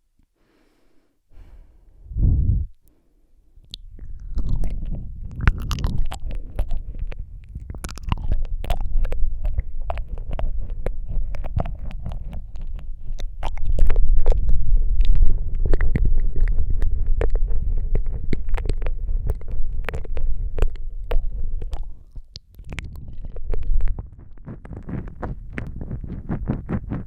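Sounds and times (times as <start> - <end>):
heavy low rumble: 1.8 - 2.8, 3.5 - 27.0
wet lip and tongue clicks: 3.6 - 27.0.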